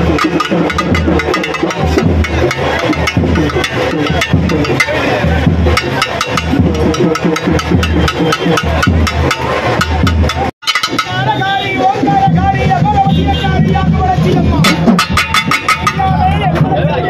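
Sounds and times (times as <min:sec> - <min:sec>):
crowd voices: 0:00.0 - 0:17.0
drums beaten fast: 0:00.0 - 0:17.0.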